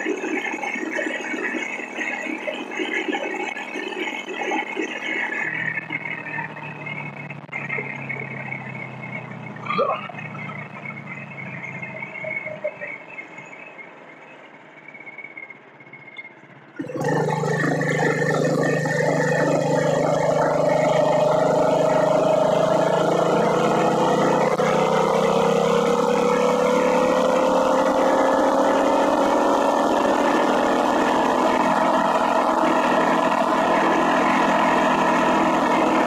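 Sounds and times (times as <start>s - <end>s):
small gas engine running: 0.0s - 12.1s, 16.8s - 36.0s.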